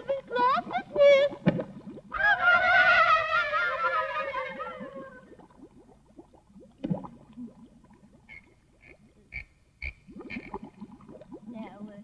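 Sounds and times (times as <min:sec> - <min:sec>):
cartoon bubbling bloops: 0:00.0 - 0:03.1, 0:04.0 - 0:09.2, 0:09.8 - 0:12.0.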